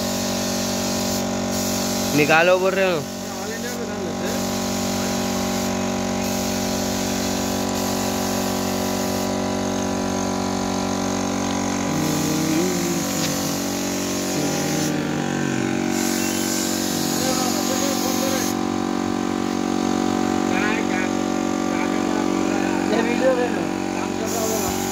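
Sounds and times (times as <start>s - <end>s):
air compressor running: 0.0s - 24.9s
paint spray gun hissing: 0.0s - 24.9s.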